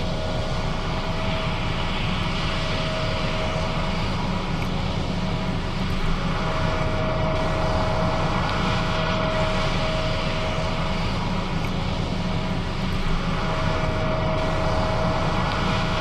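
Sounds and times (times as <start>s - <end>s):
steady machine whine: 0.0s - 16.0s.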